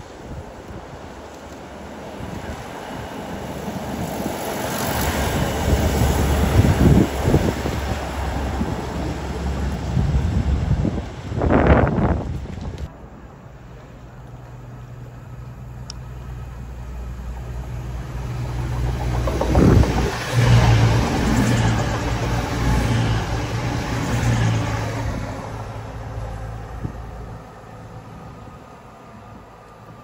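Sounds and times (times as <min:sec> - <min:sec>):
diesel train engine hum: 0:00.0 - 0:30.0
wheel and rail noise: 0:00.0 - 0:30.0.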